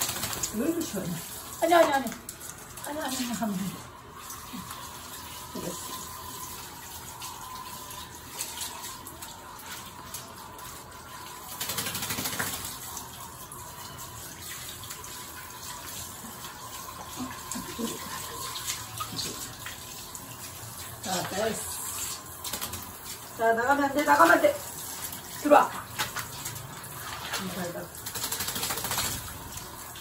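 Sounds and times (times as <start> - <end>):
shower spraying water: 0.0 - 30.0.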